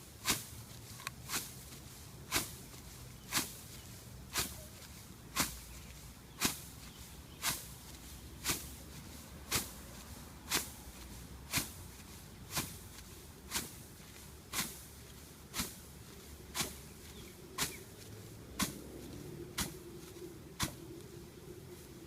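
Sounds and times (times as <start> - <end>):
footsteps crunching through straw: 0.0 - 22.0.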